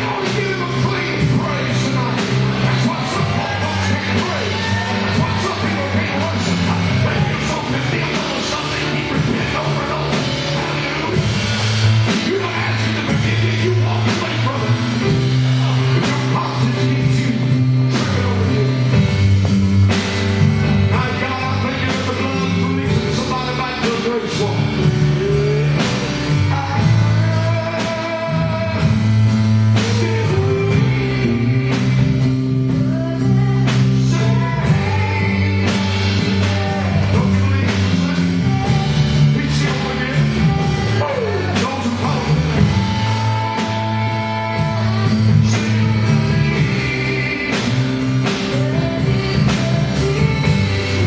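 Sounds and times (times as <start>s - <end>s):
bass guitar: 0.0s - 51.0s
drums: 0.0s - 51.0s
person singing: 0.0s - 51.0s
piano: 0.0s - 51.0s.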